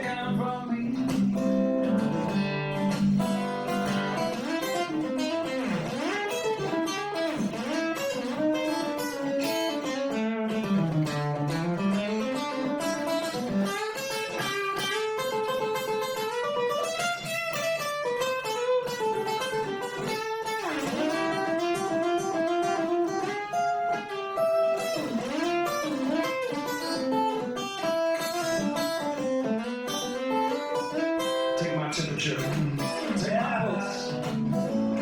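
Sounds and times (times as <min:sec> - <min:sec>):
guitar playing single notes: 0:00.0 - 0:35.0.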